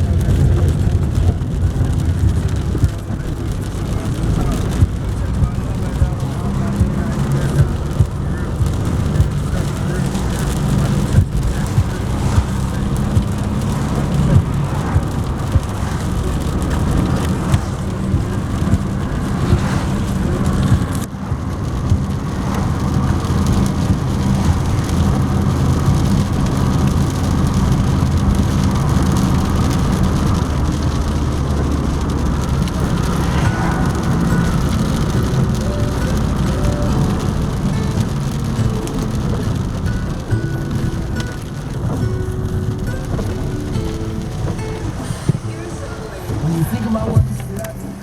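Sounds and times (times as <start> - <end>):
car engine and road hum: 0.0 - 48.0
light rain taps: 0.0 - 48.0
rain hissing on car: 0.0 - 48.0.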